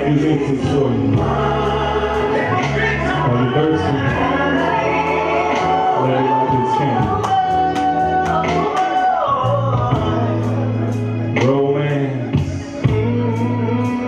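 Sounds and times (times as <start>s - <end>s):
man singing: 0.0s - 14.0s
sustained bass notes: 0.0s - 14.0s.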